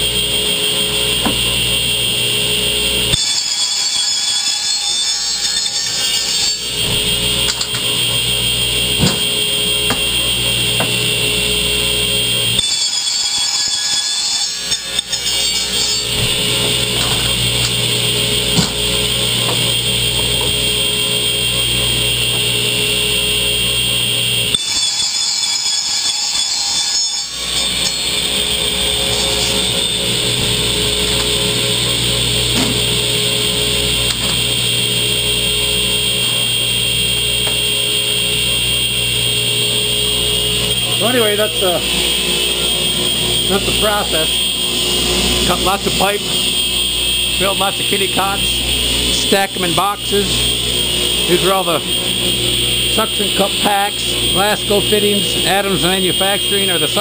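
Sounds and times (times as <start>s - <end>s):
radial arm saw whining: 0.0s - 57.0s.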